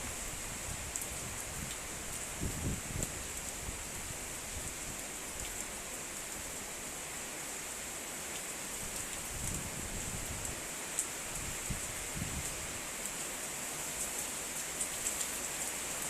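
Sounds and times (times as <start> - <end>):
heavy rain and sleet hissing: 0.0 - 16.0.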